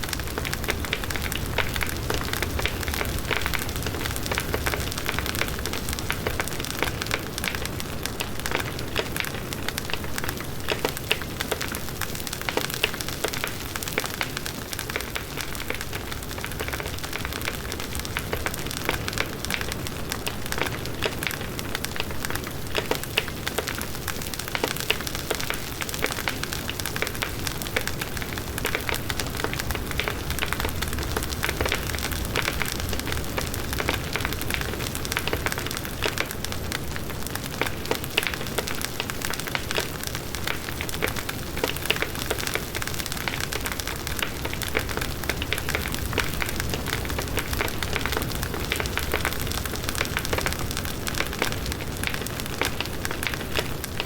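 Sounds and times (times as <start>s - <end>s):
burning wood crackling: 0.0s - 54.0s
wind: 0.0s - 54.0s.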